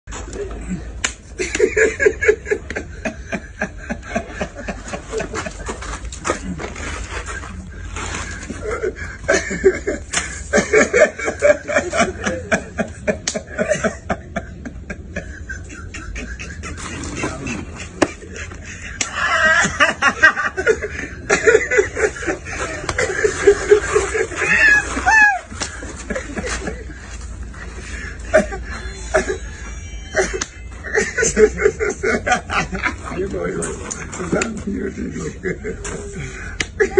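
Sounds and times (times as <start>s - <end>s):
men laughing: 0.2s - 36.9s.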